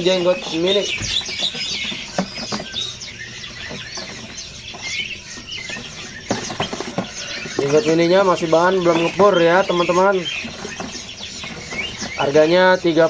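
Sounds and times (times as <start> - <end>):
songbirds chirping and twittering: 0.0 - 13.0.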